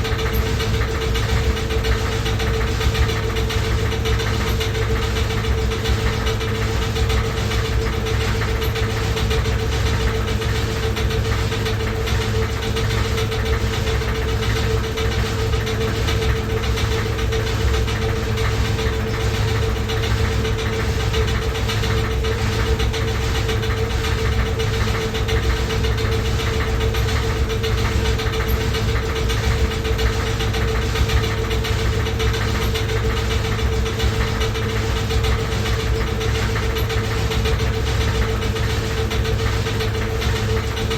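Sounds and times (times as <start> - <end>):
knocking rattle: 0.0 - 40.9
washing machine running: 0.0 - 40.9.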